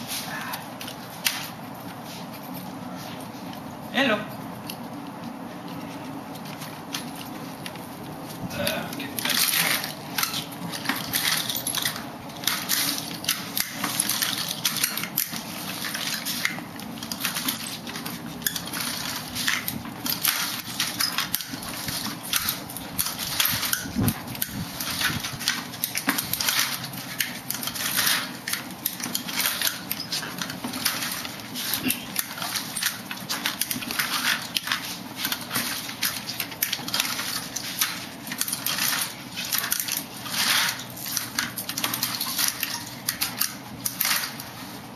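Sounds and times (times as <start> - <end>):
walker clattering on concrete: 4.6 - 44.9.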